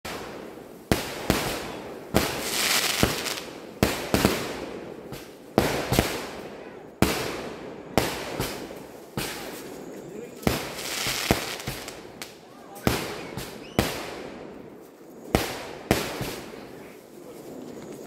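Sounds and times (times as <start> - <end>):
fireworks bangs: 0.1 - 17.0
fireworks crackling hiss: 0.1 - 18.0.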